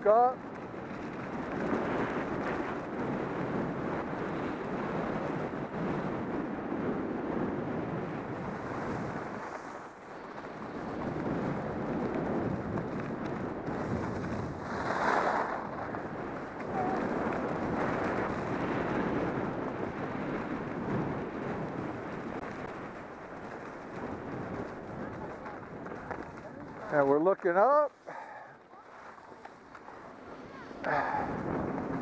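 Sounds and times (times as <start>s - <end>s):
skis scraping over snow: 0.0s - 32.0s
wind on microphone: 0.0s - 32.0s.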